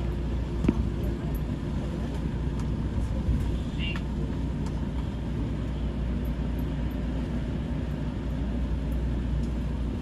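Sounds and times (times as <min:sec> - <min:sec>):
train cab hum and rumble: 0:00.0 - 0:10.0.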